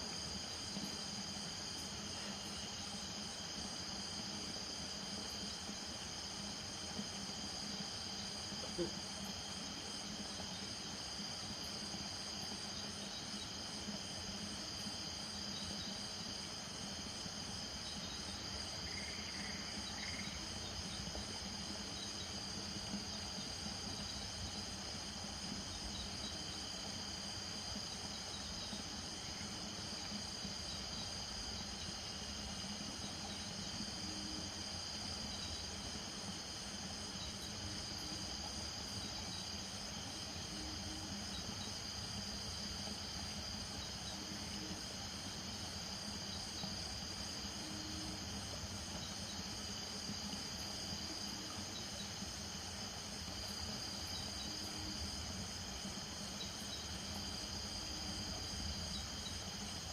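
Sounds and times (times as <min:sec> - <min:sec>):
crickets trilling: 0:00.0 - 0:59.9
low drone of frogs: 0:00.0 - 0:59.9.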